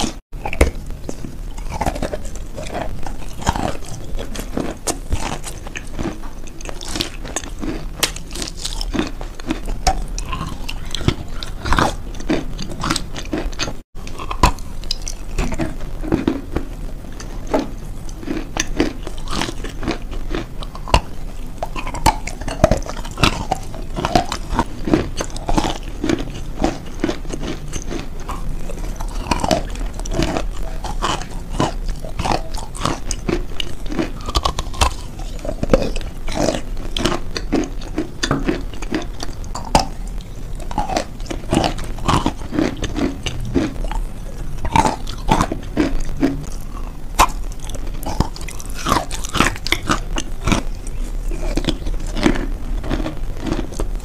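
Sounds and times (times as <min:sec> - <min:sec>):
crisp crunching while chewing: 0:00.0 - 0:54.0.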